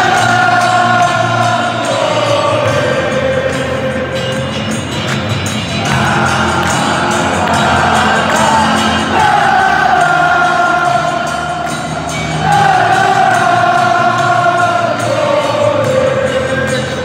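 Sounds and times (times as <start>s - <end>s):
crowd roar: 0.0s - 4.6s, 5.6s - 17.0s
crowd singing: 0.0s - 17.0s
music: 0.0s - 17.0s.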